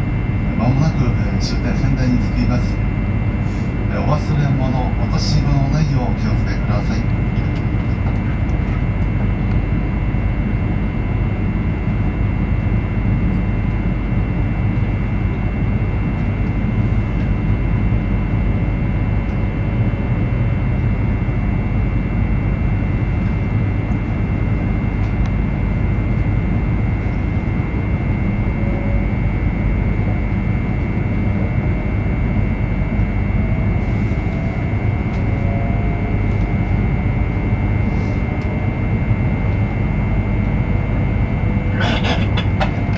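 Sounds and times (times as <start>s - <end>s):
steady high whine: 0.0s - 42.9s.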